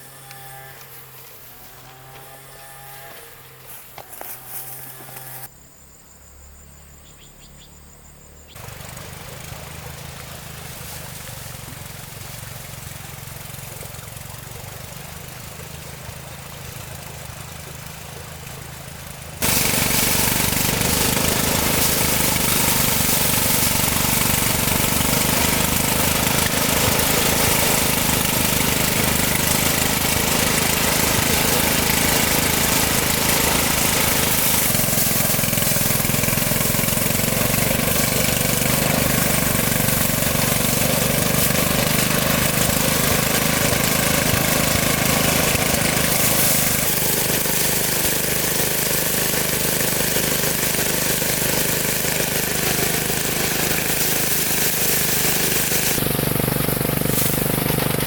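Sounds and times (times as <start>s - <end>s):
small engine running: 0.0s - 5.6s, 7.4s - 58.0s.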